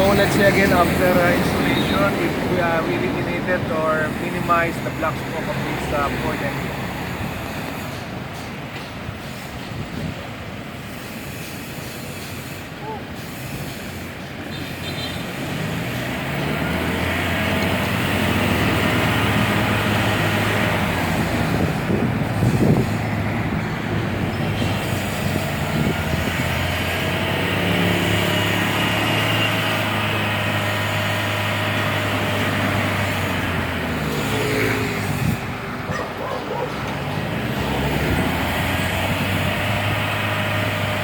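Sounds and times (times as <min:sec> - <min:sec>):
diesel engine revving: 0:00.0 - 0:41.0.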